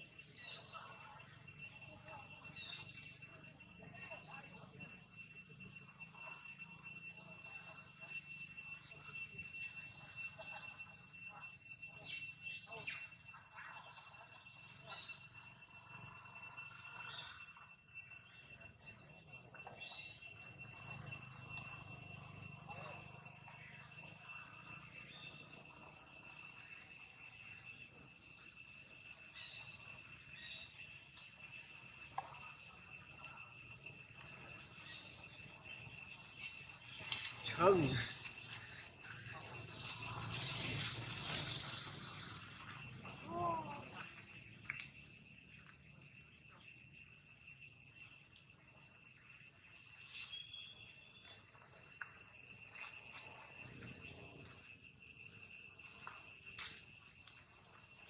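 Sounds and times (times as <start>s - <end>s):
faint chirps: 0.0s - 58.0s
insects droning: 0.0s - 58.0s.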